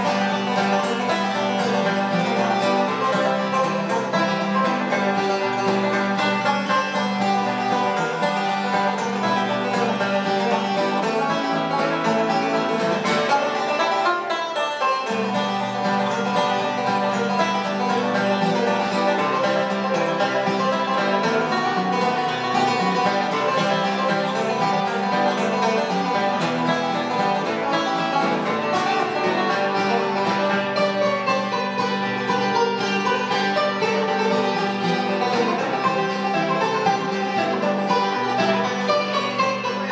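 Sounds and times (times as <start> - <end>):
acoustic guitar: 0.0 - 39.9
banjo: 0.0 - 39.9.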